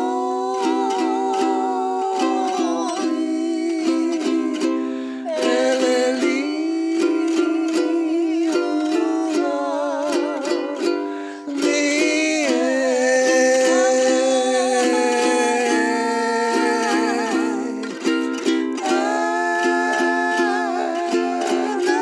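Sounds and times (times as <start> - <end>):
man and woman singing: 0.0 - 22.0
strummed ukulele: 0.0 - 22.0.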